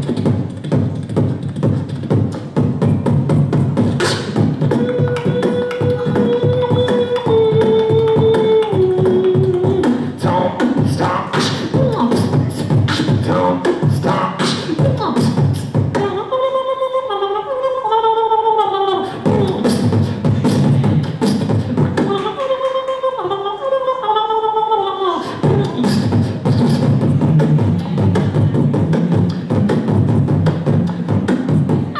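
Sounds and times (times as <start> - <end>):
person beatboxing: 0.0 - 31.9
vocal melody line: 0.0 - 31.9.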